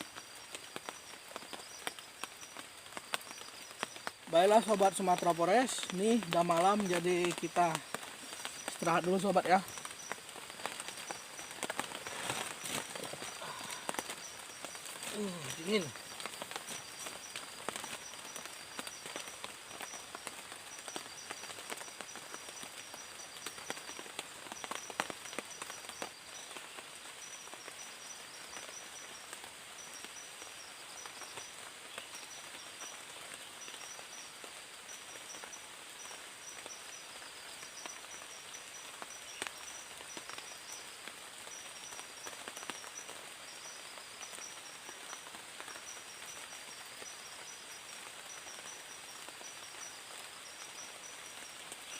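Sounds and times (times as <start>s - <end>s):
insects chirping: 0.0s - 51.9s
light rain hiss: 0.0s - 51.9s.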